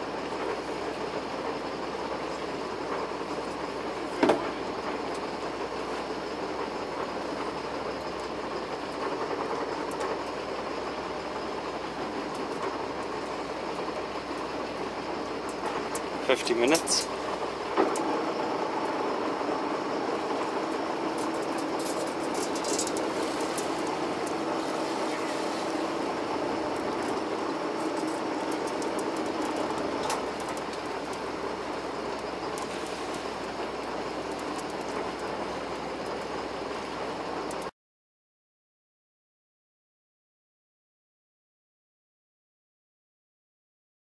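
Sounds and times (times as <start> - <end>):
boat engine running: 0.0 - 37.7
hiss of water and wind: 0.0 - 37.7.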